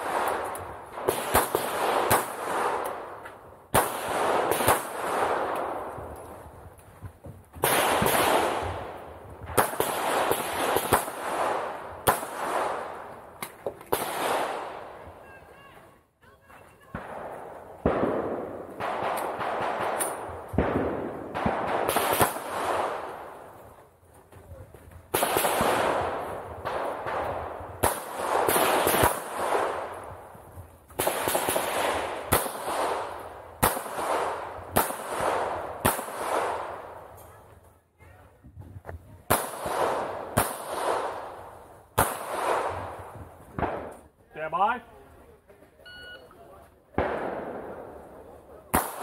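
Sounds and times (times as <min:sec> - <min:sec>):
pistol shots with echo: 0:00.0 - 0:06.4, 0:07.6 - 0:15.3, 0:16.9 - 0:23.6, 0:25.1 - 0:37.1, 0:39.3 - 0:44.0, 0:46.9 - 0:49.0.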